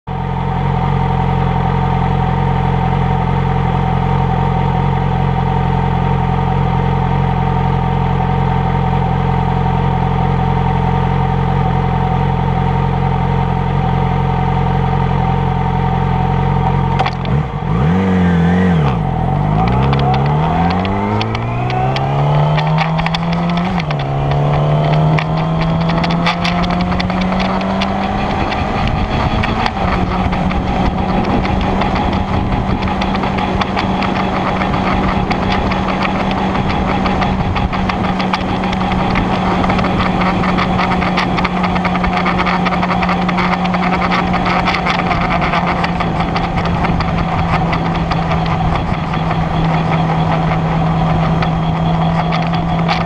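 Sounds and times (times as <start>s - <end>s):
motorcycle engine: 0.1s - 53.0s.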